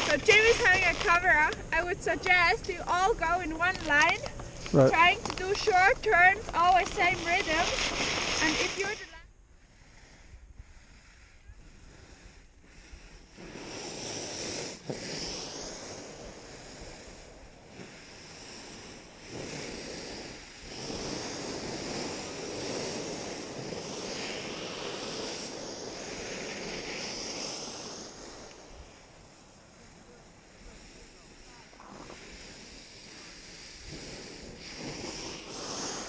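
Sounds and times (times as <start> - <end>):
skis sliding on snow: 0.0 - 4.1, 4.7 - 9.2, 10.8 - 36.0
wind rushing over microphone: 0.0 - 36.0.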